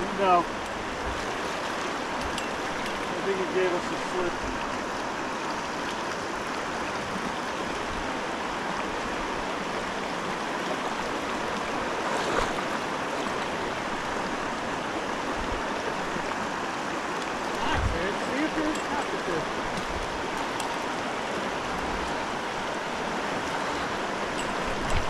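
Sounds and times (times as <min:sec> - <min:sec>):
river current rushing: 0:00.0 - 0:25.0.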